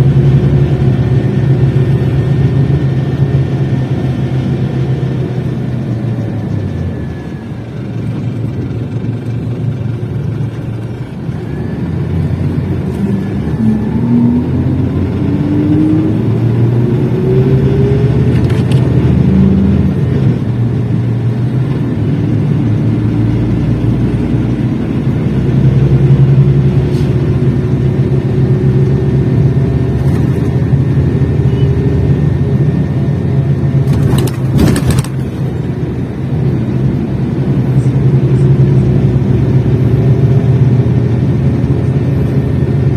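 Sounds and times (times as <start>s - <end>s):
diesel engine accelerating: 0.0s - 42.9s.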